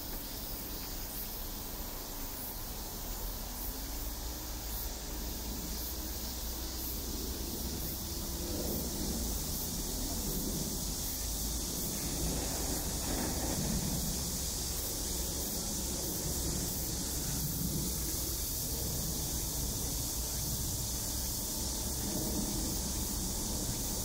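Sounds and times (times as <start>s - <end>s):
high outdoor hiss: 0.0s - 24.0s.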